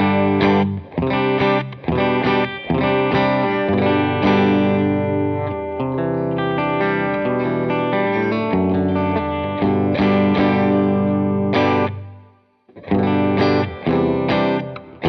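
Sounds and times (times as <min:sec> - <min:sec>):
electric guitar strums: 0:00.0 - 0:15.0
ringing guitar chords: 0:00.0 - 0:15.0.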